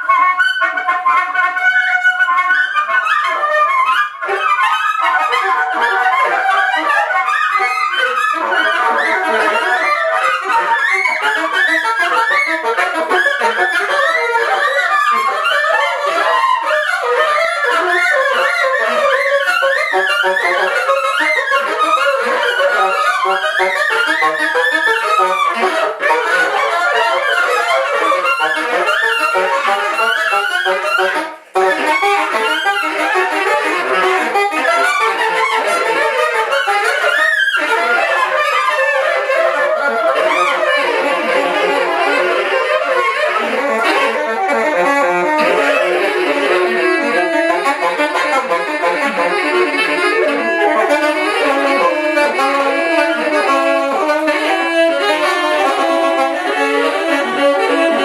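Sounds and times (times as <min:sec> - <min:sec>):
saxophone duet: 0:00.0 - 0:58.0.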